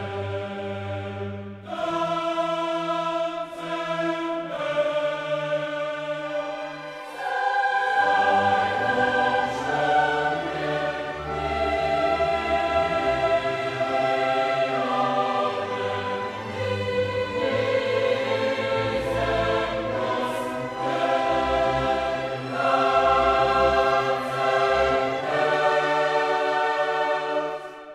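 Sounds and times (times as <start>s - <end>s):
choir singing held chords: 0.0s - 27.9s.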